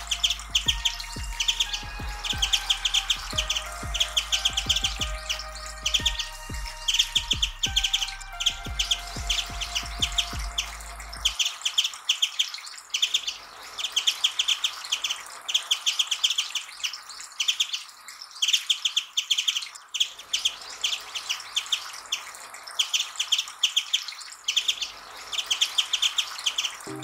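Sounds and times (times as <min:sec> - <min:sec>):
bird twittering song: 0:00.0 - 0:27.0.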